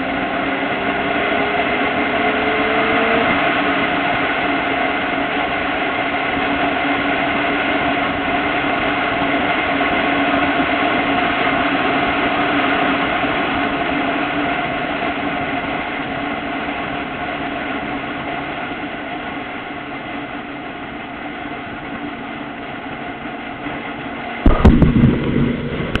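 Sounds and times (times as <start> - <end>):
loud rough low rumble: 0.0 - 26.0
motorcycle engine running: 0.0 - 26.0
wind and road noise: 0.0 - 26.0.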